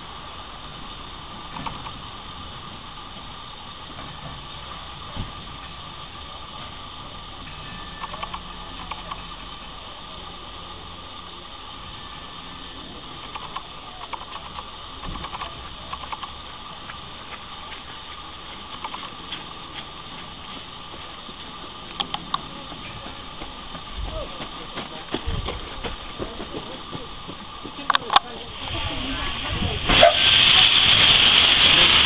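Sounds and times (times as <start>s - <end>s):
steady hiss: 0.0s - 32.0s
railway wheels clicking and clanking: 0.1s - 32.0s.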